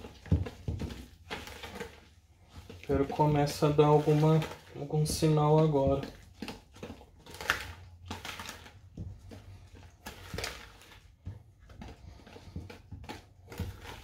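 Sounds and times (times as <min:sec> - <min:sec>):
whisk scraping batter in bowl: 0:00.0 - 0:14.0.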